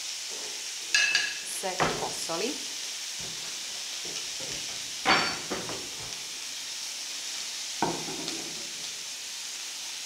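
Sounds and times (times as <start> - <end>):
meat sizzling in oil: 0.0 - 10.0.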